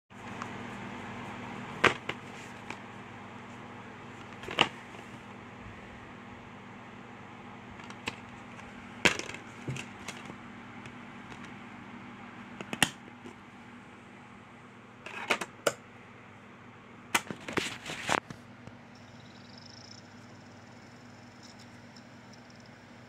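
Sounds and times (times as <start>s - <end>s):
low steady hum: 0.2s - 23.0s.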